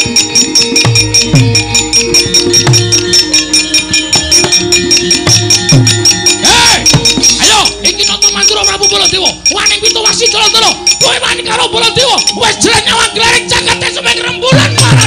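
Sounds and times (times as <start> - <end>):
metallophone tones: 0.0 - 15.0.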